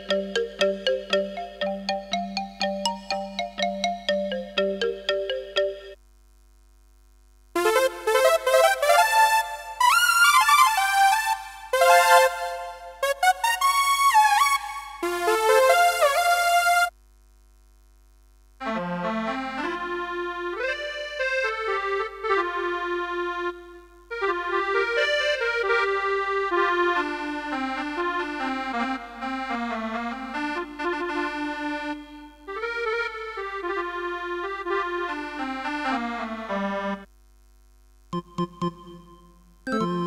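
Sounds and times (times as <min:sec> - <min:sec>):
keyboard melody: 0:00.0 - 0:06.0, 0:07.6 - 0:16.9, 0:19.1 - 0:37.0, 0:38.2 - 0:40.0.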